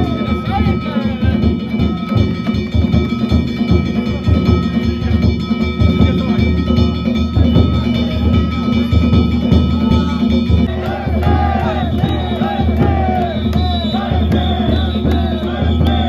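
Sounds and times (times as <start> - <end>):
hand gongs ringing: 0.0 - 16.0
taiko drums beating: 0.0 - 16.0.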